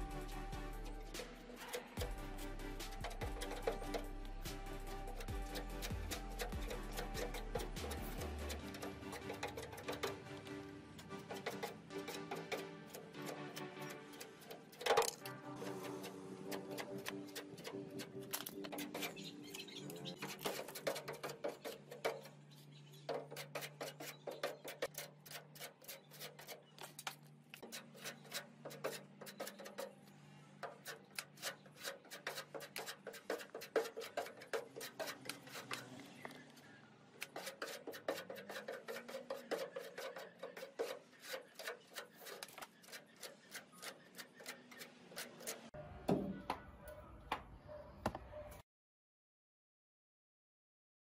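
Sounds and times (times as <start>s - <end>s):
putty knife scraping metal panel: 0.8s - 4.1s, 4.8s - 36.2s, 37.2s - 45.8s.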